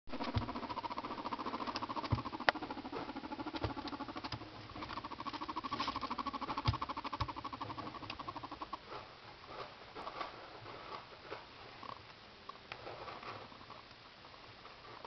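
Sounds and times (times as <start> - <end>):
guinea pig purring: 0.1 - 12.0, 12.7 - 13.9.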